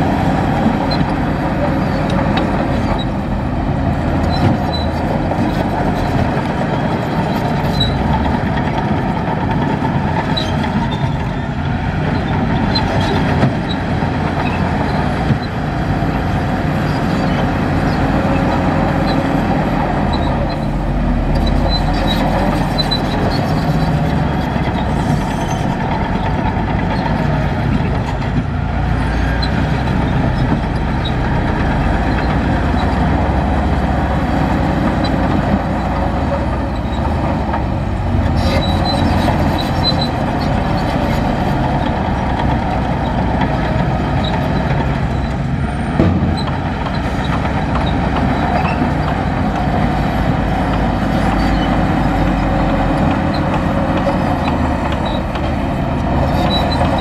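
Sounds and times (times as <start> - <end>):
heavy diesel machine running: 0.0 - 57.0.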